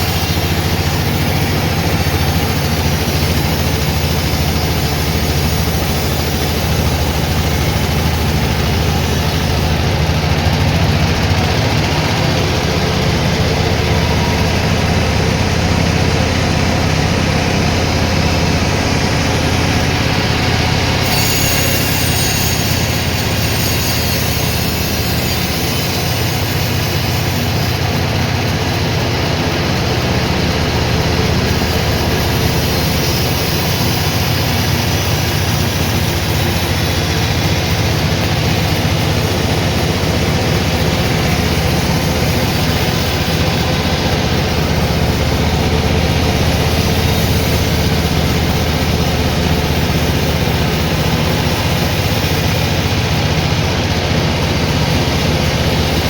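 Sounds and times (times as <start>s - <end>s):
sawmill machinery low drone: 0.0s - 56.0s.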